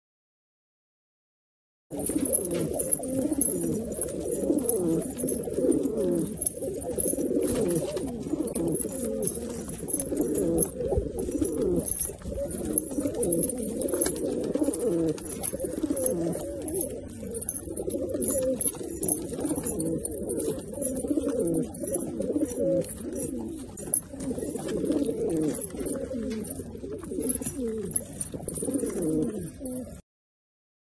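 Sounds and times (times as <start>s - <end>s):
pigeons cooing: 1.9s - 30.0s.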